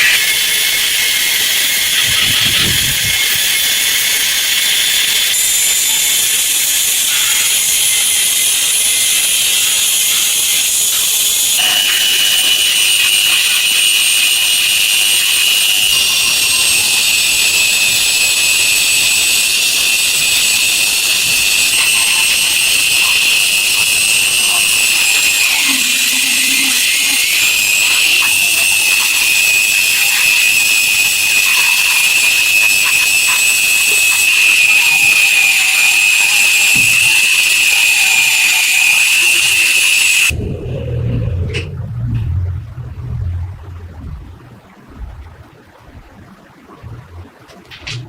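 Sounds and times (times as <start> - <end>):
power tool whining: 0.0 - 40.4.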